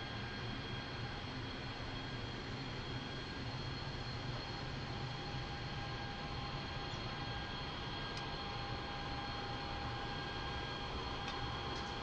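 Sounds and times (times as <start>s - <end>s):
faint high whine: 0.0s - 12.0s
mechanical hum with low rumble: 0.0s - 12.0s.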